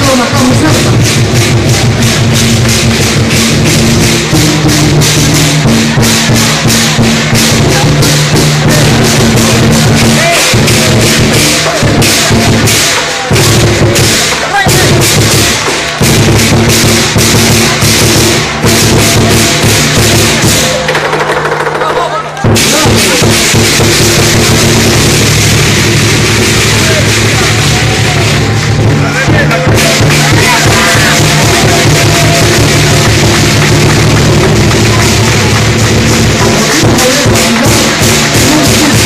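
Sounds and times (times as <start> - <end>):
cymbals crashing: 0.0 - 39.0
drums beating: 0.0 - 39.0.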